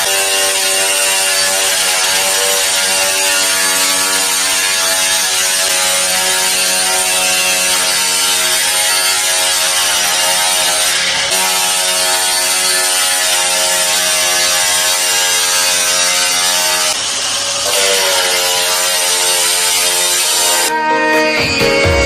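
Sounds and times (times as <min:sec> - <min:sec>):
small motor buzzing: 0:00.0 - 0:22.0.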